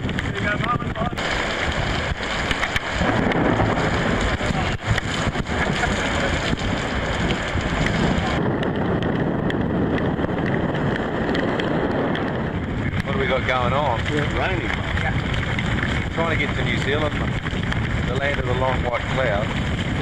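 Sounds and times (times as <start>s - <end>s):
rain: 0.0s - 20.0s
water rushing on deck: 0.0s - 20.0s
wind buffeting the microphone: 0.0s - 20.0s.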